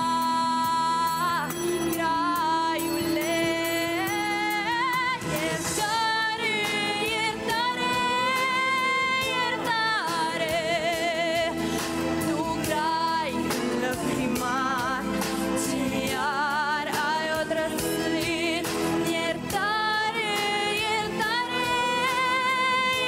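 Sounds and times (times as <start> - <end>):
musical accompaniment: 0.0 - 23.0
woman singing with vibrato: 0.0 - 23.0.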